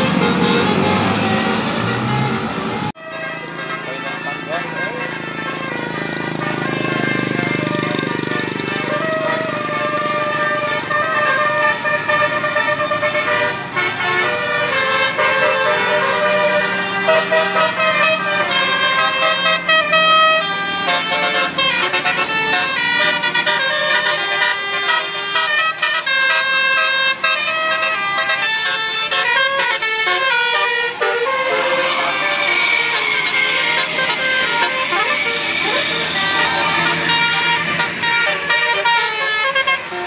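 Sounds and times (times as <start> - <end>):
multi-tone bus horn melody: 0.0 - 40.0.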